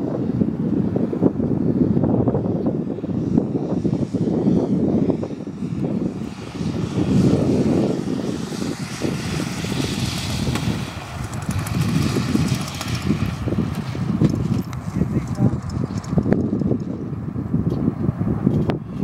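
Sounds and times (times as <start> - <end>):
model plane engine and propeller: 0.0 - 19.0.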